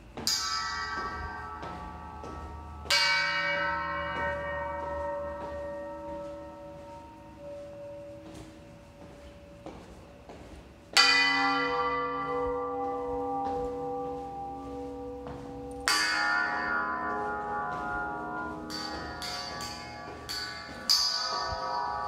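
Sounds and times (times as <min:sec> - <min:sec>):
deep bell ringing: 0:00.0 - 0:10.3, 0:10.9 - 0:22.0.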